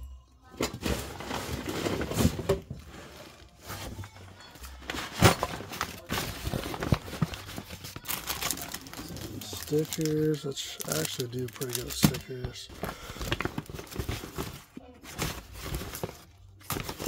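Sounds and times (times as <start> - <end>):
plastic bags rustling: 0.6 - 17.0.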